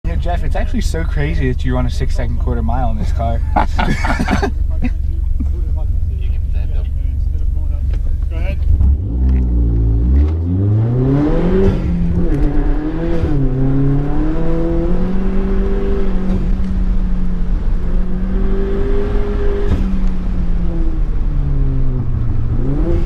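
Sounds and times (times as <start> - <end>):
car engine accelerating hard: 0.1 - 23.0.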